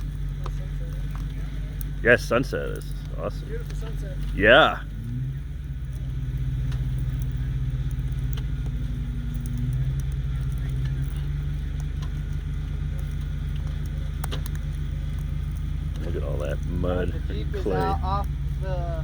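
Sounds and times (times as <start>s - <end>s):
faint clicks: 0.0s - 17.6s
truck engine humming: 0.0s - 19.0s.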